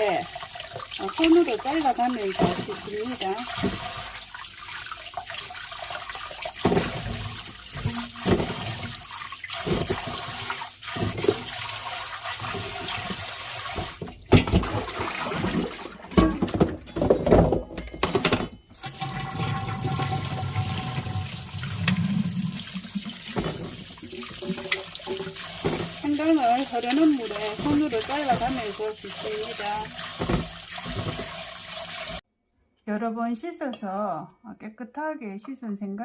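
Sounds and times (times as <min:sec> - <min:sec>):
tap water running into sink: 0:00.0 - 0:16.7, 0:18.8 - 0:32.2
splashes and knocks: 0:00.0 - 0:32.2.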